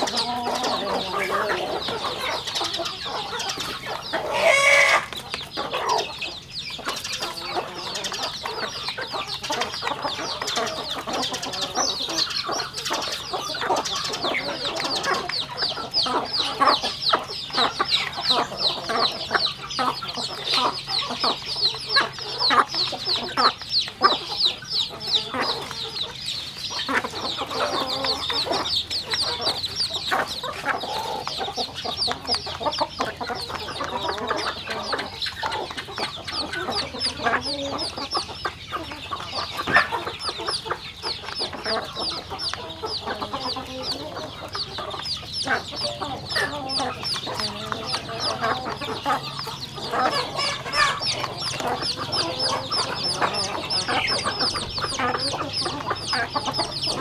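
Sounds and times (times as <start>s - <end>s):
beaks pecking plastic trough: 0.0s - 57.0s
chicks peeping: 0.0s - 57.0s
hens clucking: 0.0s - 57.0s.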